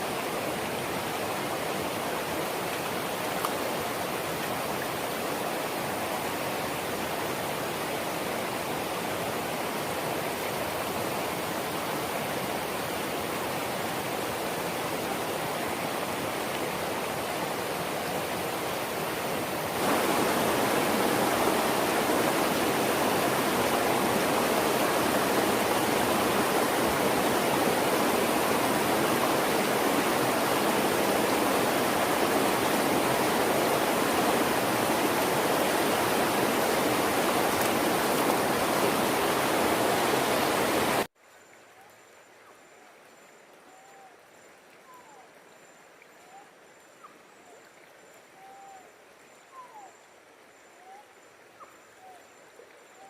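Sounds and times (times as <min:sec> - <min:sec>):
rushing stream water: 0:00.0 - 0:49.4.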